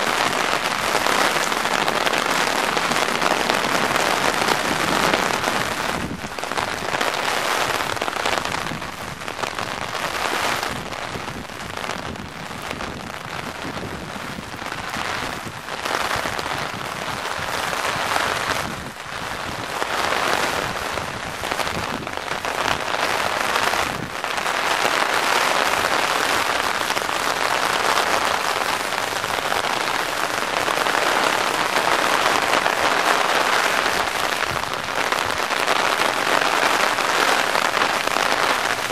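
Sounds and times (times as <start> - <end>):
rain on umbrella: 0.0 - 38.9.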